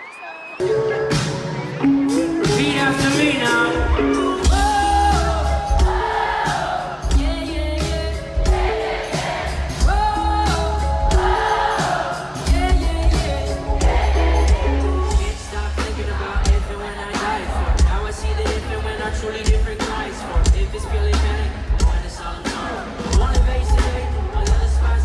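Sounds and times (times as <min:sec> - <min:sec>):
pop-rock song with singing: 0:00.6 - 0:25.0.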